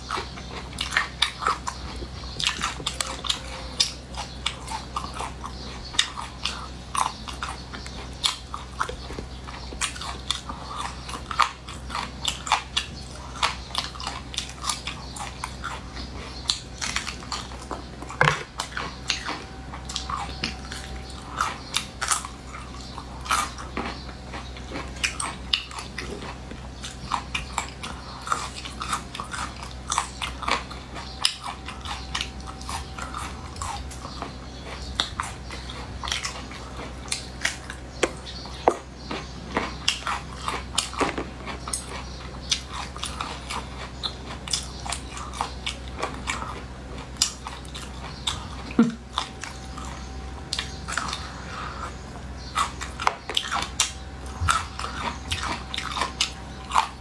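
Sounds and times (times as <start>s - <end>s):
food crunching: 0.0s - 57.0s
steady low hum: 0.0s - 57.0s
wet chewing and mouth smacking: 0.0s - 57.0s.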